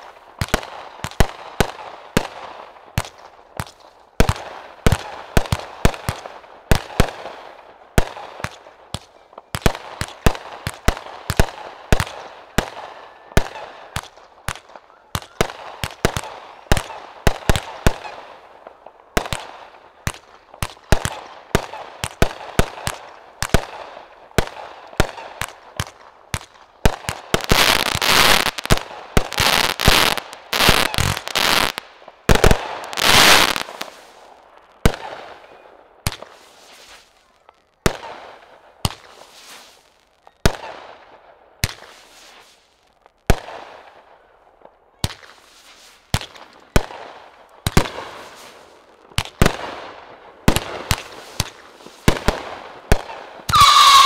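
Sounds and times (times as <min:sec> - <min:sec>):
fireworks firing and bursting: 0:00.0 - 0:54.0.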